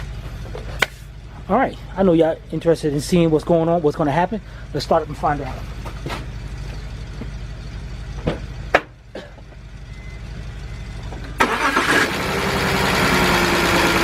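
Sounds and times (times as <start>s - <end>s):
car engine cranking and idling: 0.0s - 14.0s.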